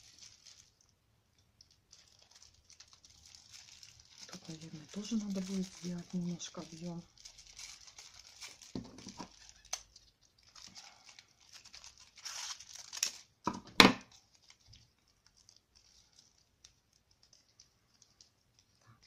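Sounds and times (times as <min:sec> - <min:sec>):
kitchen foil crinkling: 0:00.0 - 0:19.0.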